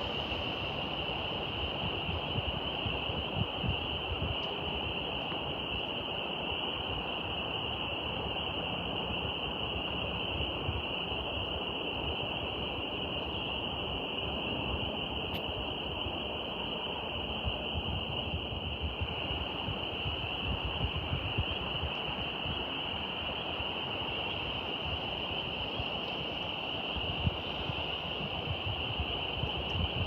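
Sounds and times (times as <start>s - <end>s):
constant rushing noise: 0.0s - 30.0s.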